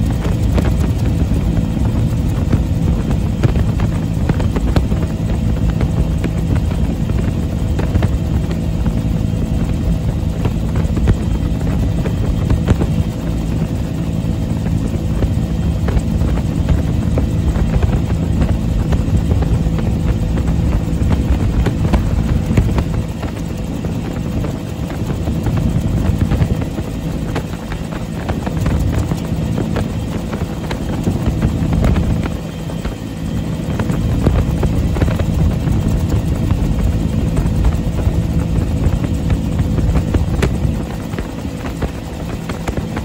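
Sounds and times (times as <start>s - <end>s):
helicopter engine and rotor: 0.0s - 43.0s.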